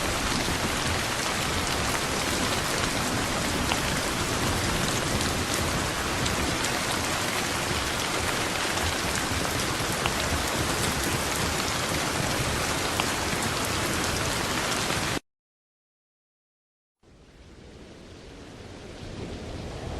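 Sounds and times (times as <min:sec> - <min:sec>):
heavy rain pouring: 0:00.0 - 0:15.2, 0:17.2 - 0:19.9.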